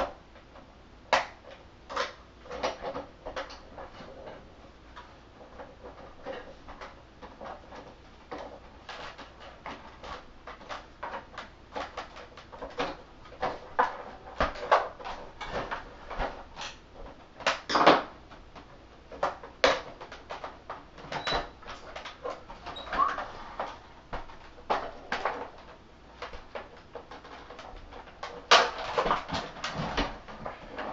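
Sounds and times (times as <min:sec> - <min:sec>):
plastic crackle: 0:05.6 - 0:30.9.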